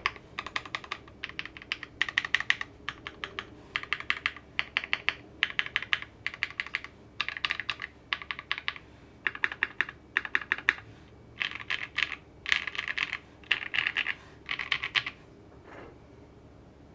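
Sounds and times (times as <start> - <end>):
mechanical keyboard typing: 0.0 - 10.8, 11.4 - 15.2.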